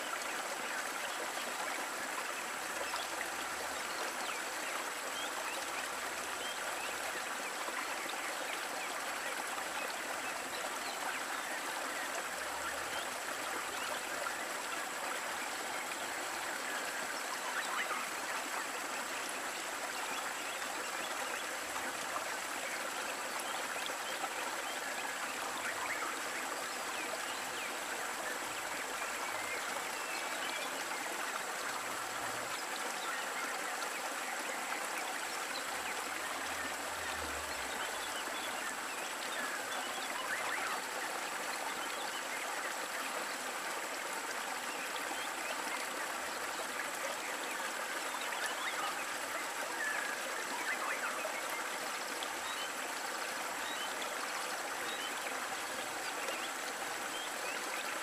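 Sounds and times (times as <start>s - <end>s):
stream running over stones: 0.0s - 58.0s.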